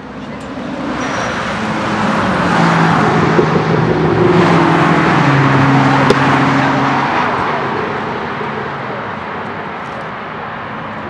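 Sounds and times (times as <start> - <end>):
sports car engine accelerating: 0.3 - 9.7.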